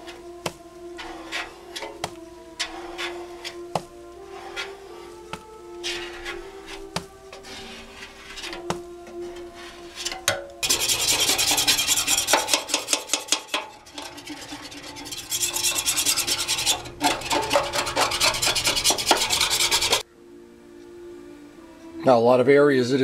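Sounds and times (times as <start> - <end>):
scraper rasping on metal: 0.0 - 20.0.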